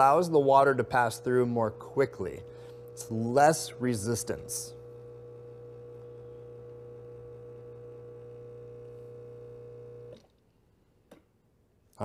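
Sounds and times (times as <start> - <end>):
espresso machine pump humming: 0.0 - 10.3.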